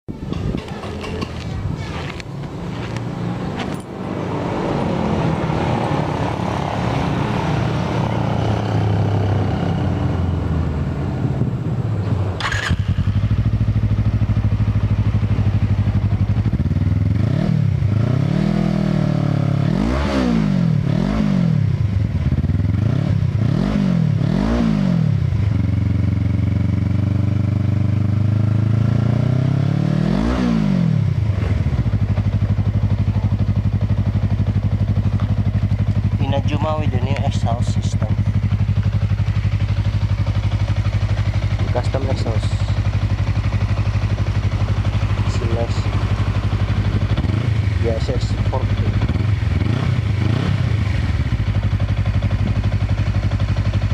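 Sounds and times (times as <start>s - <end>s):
motorcycle engine idling and revving: 0.1s - 53.9s.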